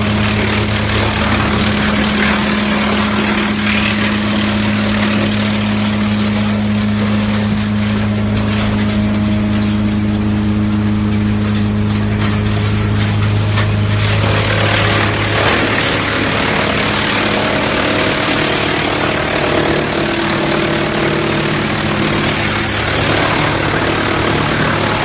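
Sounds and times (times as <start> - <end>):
low machine hum: 0.0 - 25.0
wood chipper running: 0.0 - 25.0.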